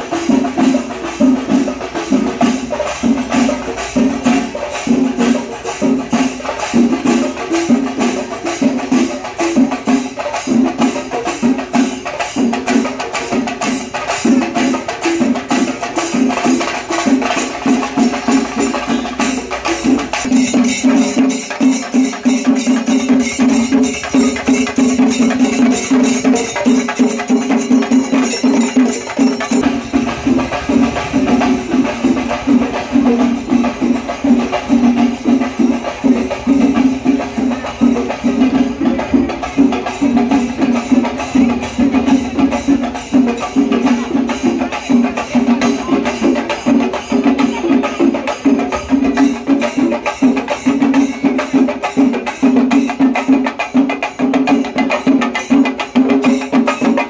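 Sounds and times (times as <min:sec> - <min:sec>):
jangling cymbals: 0:00.0 - 0:57.0
percussion-led music: 0:00.0 - 0:57.0.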